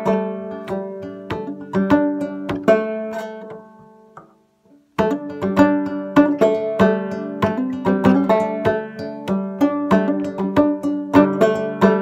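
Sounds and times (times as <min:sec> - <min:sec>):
banjo plucked notes: 0:00.0 - 0:12.0.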